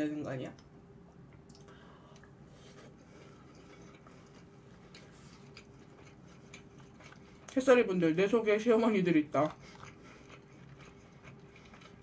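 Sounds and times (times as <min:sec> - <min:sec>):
low steady hum: 0:00.0 - 0:12.0
chewing food: 0:01.4 - 0:07.9, 0:08.8 - 0:12.0.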